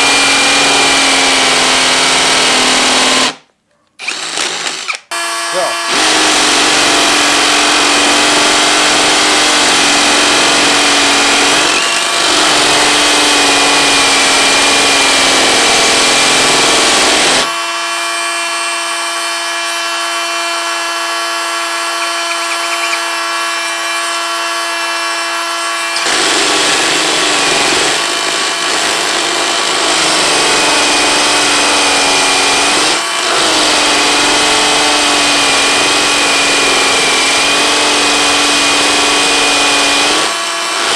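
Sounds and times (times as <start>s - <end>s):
drill running free: 0.0s - 3.4s, 4.0s - 40.9s
hammer drill drilling into masonry: 0.0s - 3.4s, 4.0s - 40.9s.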